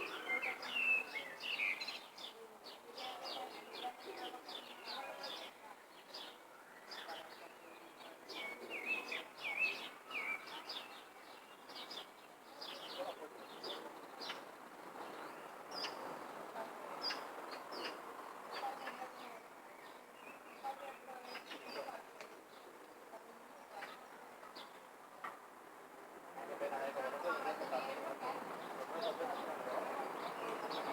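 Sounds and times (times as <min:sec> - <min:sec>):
wild birds chirping: 0:00.0 - 0:30.9.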